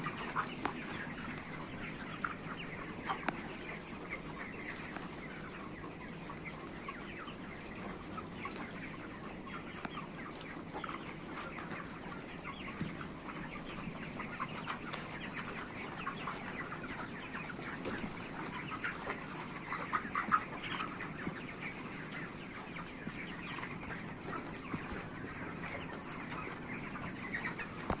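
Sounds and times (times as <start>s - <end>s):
chickens clucking and chirping: 0.0s - 28.0s.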